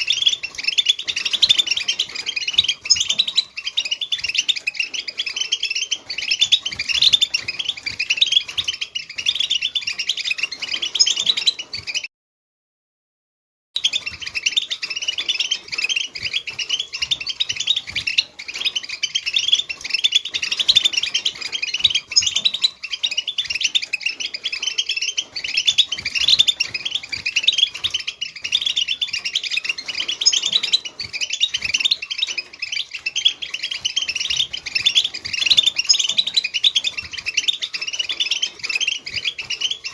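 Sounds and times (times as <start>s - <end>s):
goldfinch twittering: 0.0s - 12.1s, 13.8s - 39.9s.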